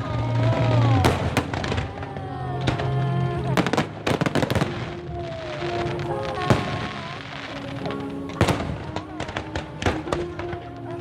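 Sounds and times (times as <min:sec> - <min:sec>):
fireworks bangs and crackling: 0:00.0 - 0:11.0
music playing: 0:00.0 - 0:11.0.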